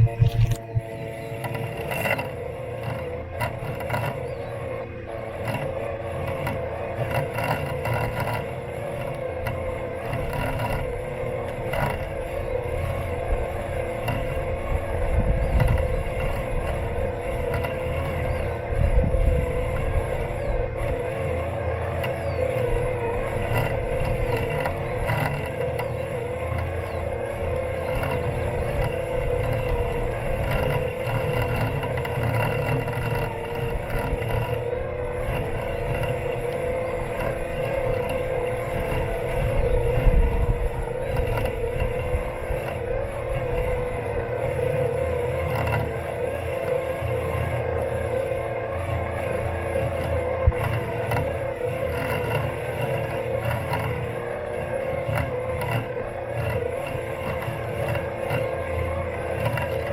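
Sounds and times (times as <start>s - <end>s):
low uneven vibration rumble: 0.0s - 59.9s
robot lawn mower motors humming: 0.0s - 59.9s.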